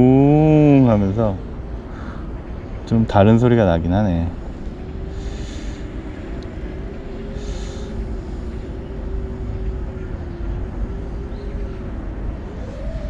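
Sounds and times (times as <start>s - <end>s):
low rumble: 0.0s - 13.0s
quadcopter propellers humming: 0.0s - 13.0s.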